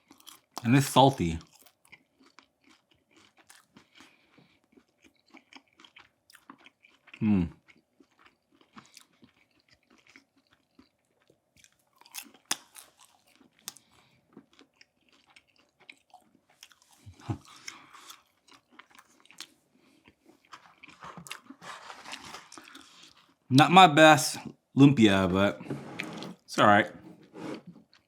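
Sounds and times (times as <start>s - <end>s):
chewing spring roll crunches: 0.0s - 23.4s.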